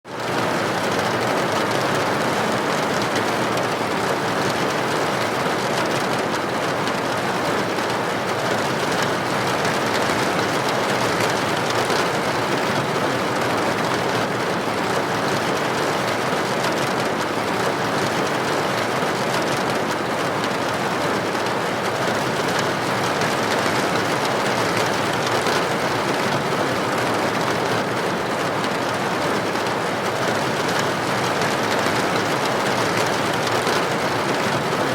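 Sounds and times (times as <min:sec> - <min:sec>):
rain on a window: 0:00.1 - 0:34.9.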